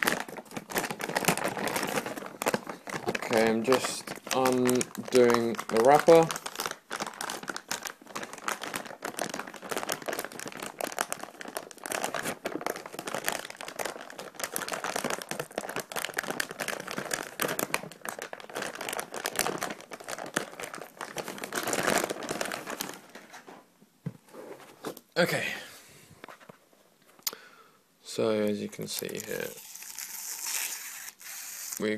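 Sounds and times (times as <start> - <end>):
wrapper crinkling: 0.0 - 23.4, 28.6 - 31.9.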